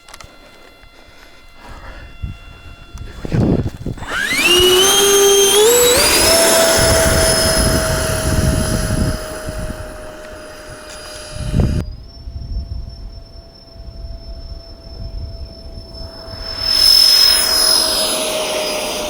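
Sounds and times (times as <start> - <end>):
electric ducted fans whining: 0.0 - 19.0
wind buffeting microphone: 1.4 - 19.0.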